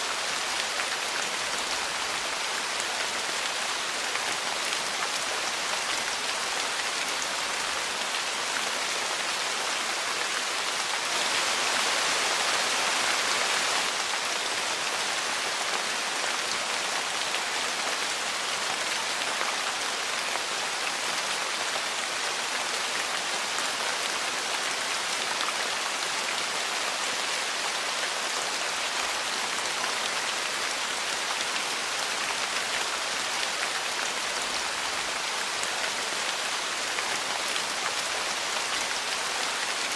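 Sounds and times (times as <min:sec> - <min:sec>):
dense rain falling on porch: 0:00.0 - 0:39.9.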